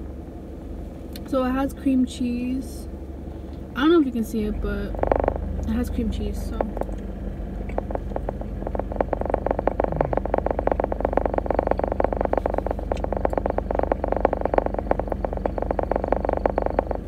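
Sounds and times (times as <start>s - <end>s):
car air conditioner rattling: 0.0s - 17.0s
steady low hum: 0.0s - 17.0s.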